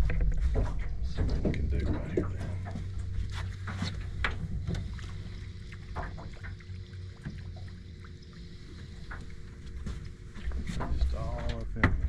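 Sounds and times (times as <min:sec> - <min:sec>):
boat engine rumble: 0:00.0 - 0:12.0
faint steady hum: 0:00.0 - 0:12.0.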